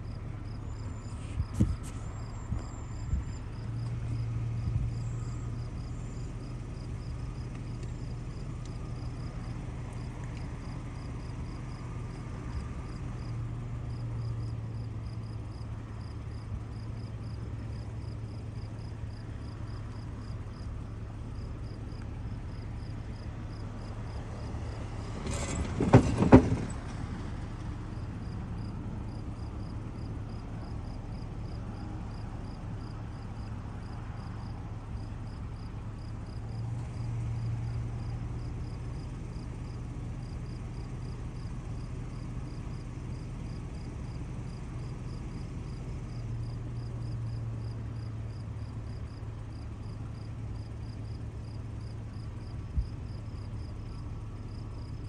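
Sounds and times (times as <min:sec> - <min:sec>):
car passing close by: 0:00.0 - 0:20.6, 0:21.6 - 0:51.9
insects chirping: 0:00.0 - 0:25.2, 0:26.8 - 0:55.0.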